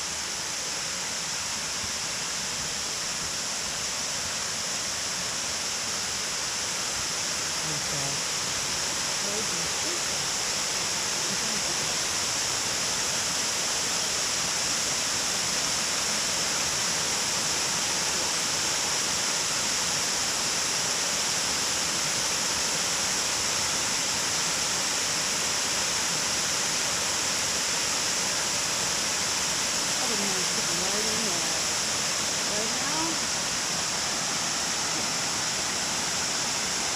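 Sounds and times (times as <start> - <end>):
small waterfall rushing: 0.0 - 36.9.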